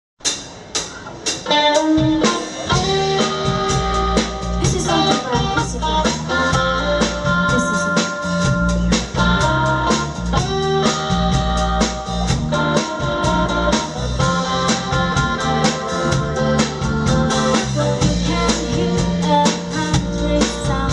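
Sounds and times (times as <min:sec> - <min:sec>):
live band playing upbeat music: 0:00.2 - 0:20.9
sharp drum beats: 0:00.2 - 0:20.9.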